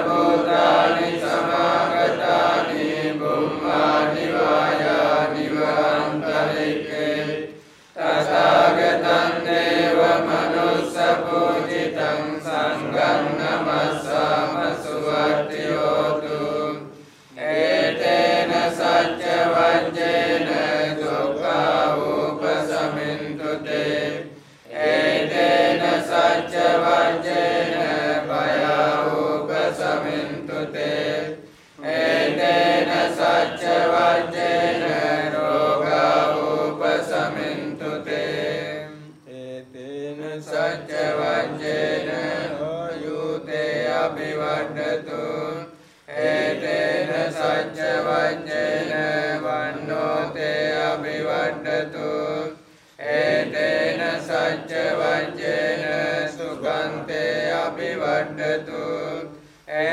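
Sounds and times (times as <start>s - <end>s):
monks chanting in unison: 0.0s - 59.9s.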